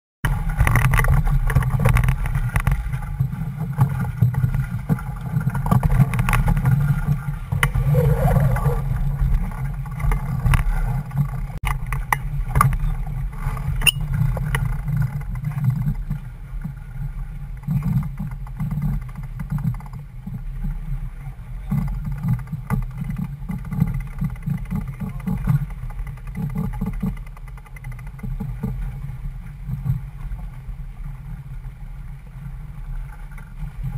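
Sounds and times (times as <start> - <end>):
wind buffeting microphone: 0.2 - 33.9
water rushing along hull: 0.3 - 33.9.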